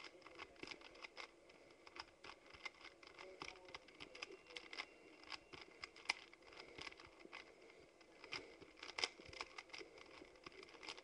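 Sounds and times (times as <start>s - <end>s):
plastic cube clicking: 0.0s - 7.4s, 8.2s - 11.0s.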